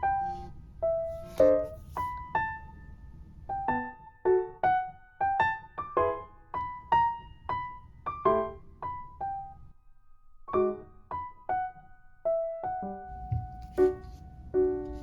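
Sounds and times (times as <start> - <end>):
gentle piano melody: 0.0 - 9.8, 10.4 - 15.0.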